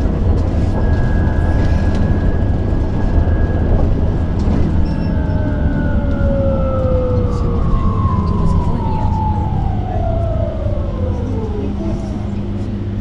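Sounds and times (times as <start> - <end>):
bus cabin rumble with whine: 0.0 - 13.0
whine gliding down in pitch: 0.6 - 13.0.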